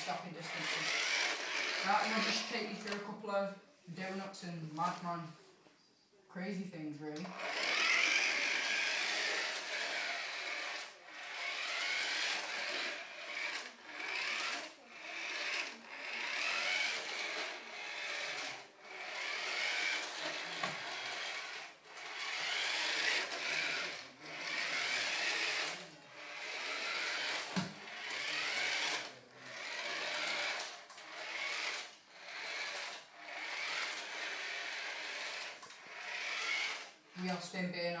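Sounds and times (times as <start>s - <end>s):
toy car electric motor whining: 0.0s - 4.2s, 7.2s - 38.0s.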